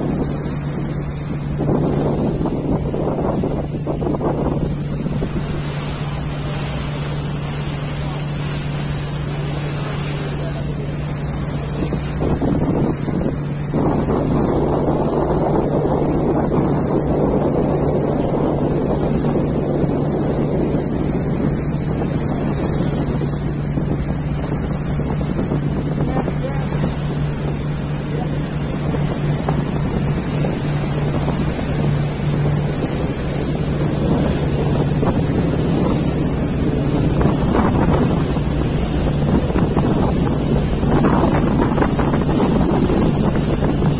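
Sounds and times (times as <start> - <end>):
boat engine droning: 0.0 - 43.9
water washing: 0.0 - 43.9
wind buffeting microphone: 0.0 - 43.9.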